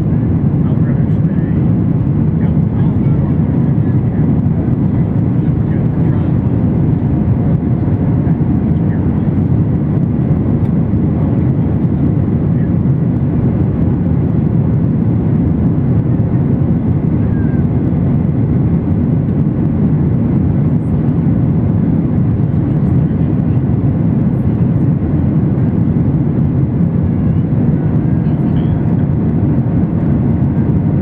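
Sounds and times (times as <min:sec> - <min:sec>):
jet engines at climb power: 0:00.0 - 0:31.0.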